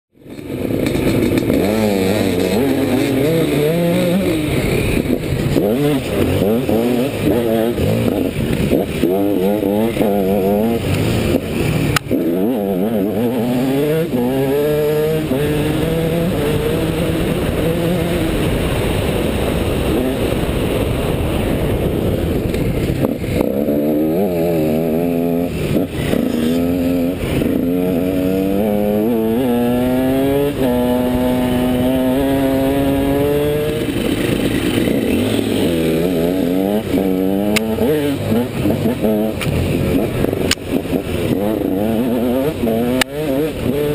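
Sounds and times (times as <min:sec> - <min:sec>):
dirt bike engine revving: 0:00.2 - 0:43.9
wind noise on microphone: 0:00.3 - 0:43.9.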